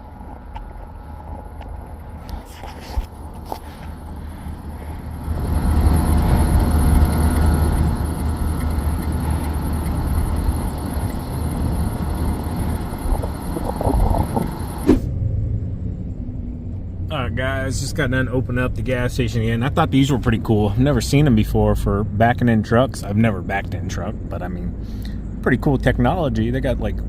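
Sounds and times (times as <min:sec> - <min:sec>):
truck engine droning: 0:00.0 - 0:27.0.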